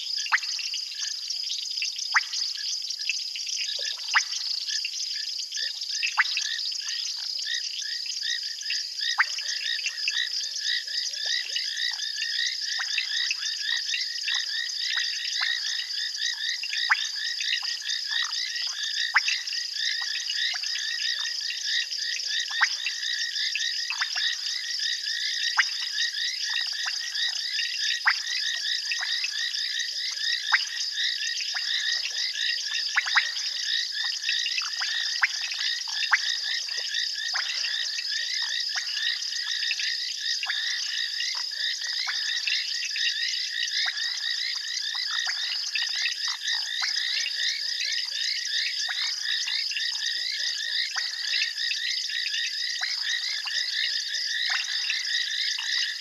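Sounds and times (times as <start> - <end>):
frogs calling: 0.0 - 56.0.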